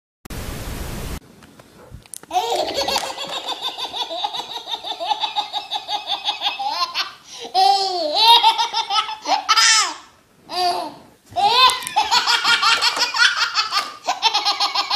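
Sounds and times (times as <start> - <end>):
baby laughing: 2.3 - 14.9.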